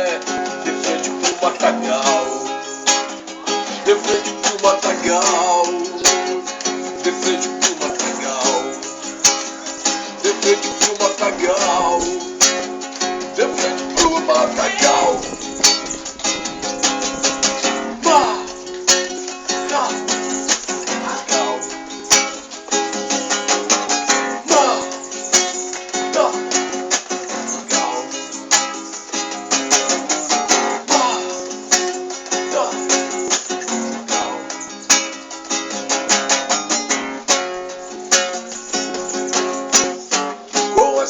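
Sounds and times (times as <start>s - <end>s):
guitar strummed rapidly: 0.0s - 41.0s.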